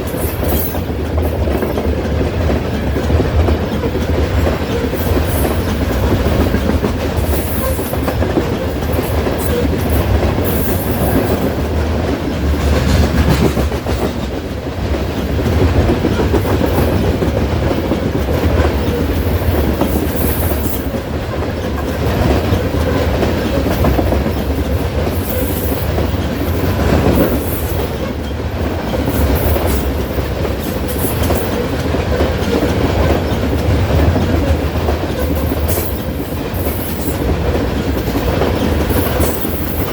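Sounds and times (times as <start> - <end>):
train cars rumbling by: 0.0 - 39.9
wheels clickety-clack on rails: 0.0 - 39.9.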